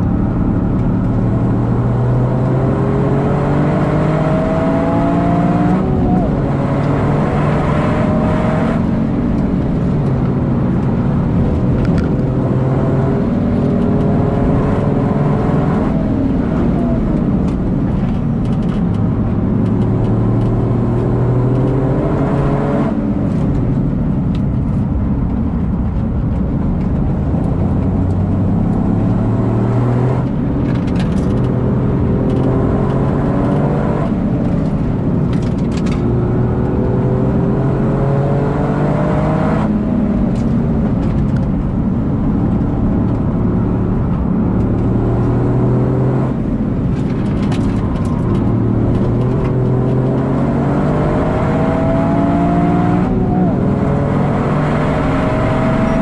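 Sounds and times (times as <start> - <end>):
car engine accelerating: 0.0 - 56.0
tyre and road noise: 0.0 - 56.0.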